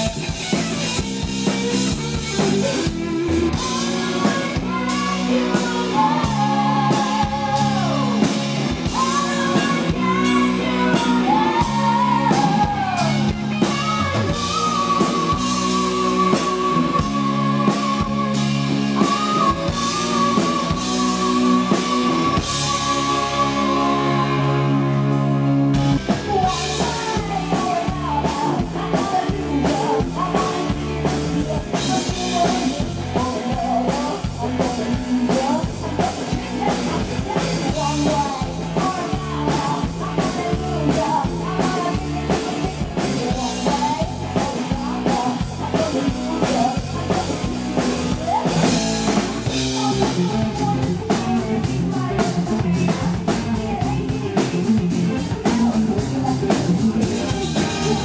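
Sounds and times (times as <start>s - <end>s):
woman singing: 0.0s - 25.1s, 26.0s - 58.0s
bass guitar: 0.0s - 58.0s
drum kit: 0.0s - 58.0s
electric guitar: 0.0s - 58.0s.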